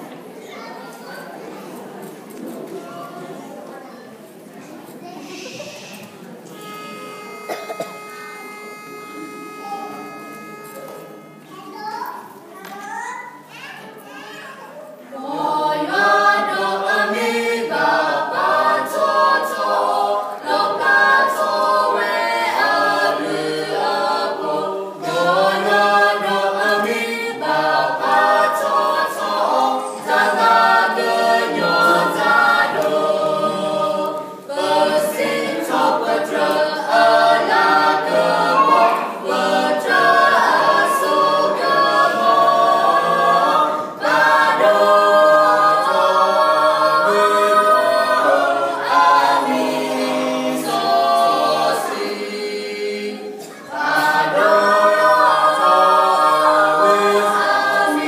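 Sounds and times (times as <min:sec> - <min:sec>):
vocal quartet singing a hymn: 0:05.6 - 0:11.4, 0:15.1 - 0:58.0.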